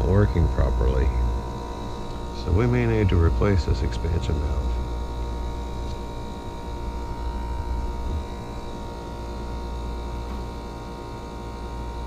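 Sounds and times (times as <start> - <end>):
heat pump humming: 0.0 - 12.0
thin steady whine: 0.0 - 12.0.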